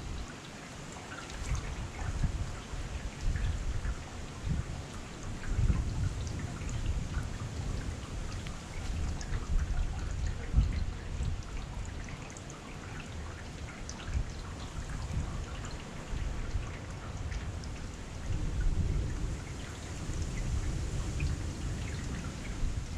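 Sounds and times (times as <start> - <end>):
heavy rain falling: 0.0 - 22.9
raindrops ticking close by: 0.0 - 22.9.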